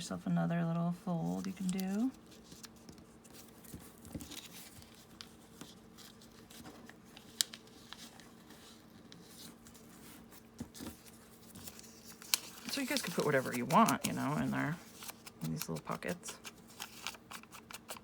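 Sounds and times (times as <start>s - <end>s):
paper rustling and crinkling: 1.3s - 18.0s.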